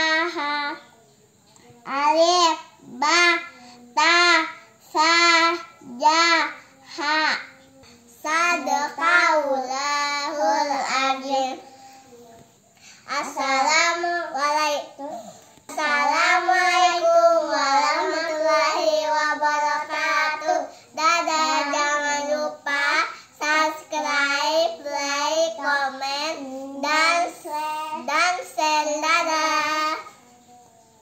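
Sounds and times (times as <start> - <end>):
girls singing: 0.0 - 11.7, 15.6 - 30.3.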